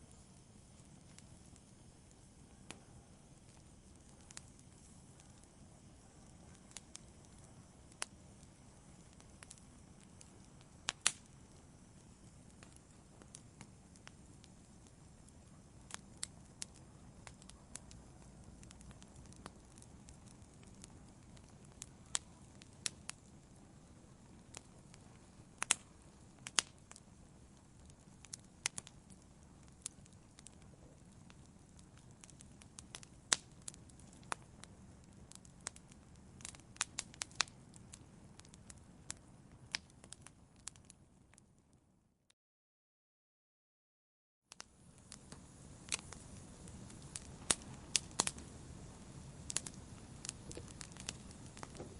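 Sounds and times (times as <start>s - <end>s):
fire flames rumbling: 0.0s - 41.6s, 44.6s - 51.9s
fire crackling and popping: 0.0s - 41.9s, 44.5s - 51.9s.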